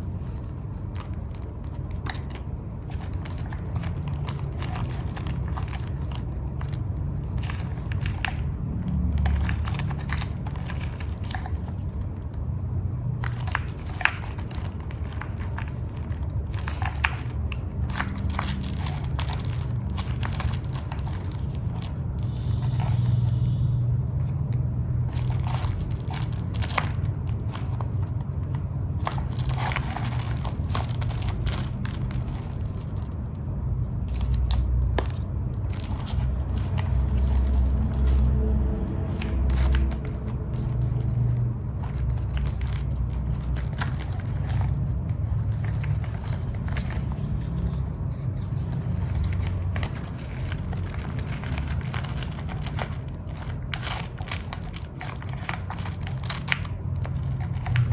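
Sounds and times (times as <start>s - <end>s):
paper crinkling and rustling: 0.0s - 57.9s.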